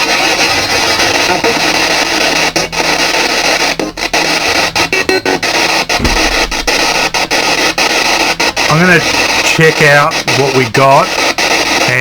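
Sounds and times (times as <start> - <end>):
radio static hiss: 0.0 - 12.0
snatches of broadcast music: 0.0 - 12.0.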